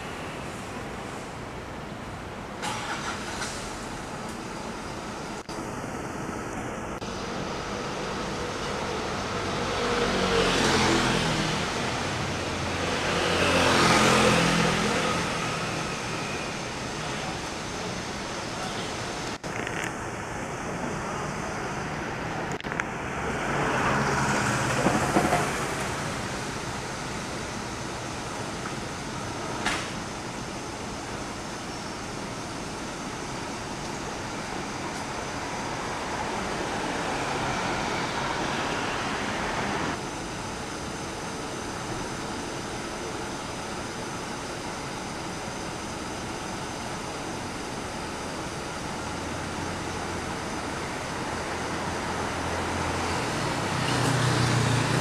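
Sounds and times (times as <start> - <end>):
city street traffic: 0.0 - 55.0
vehicles passing close by: 0.0 - 55.0.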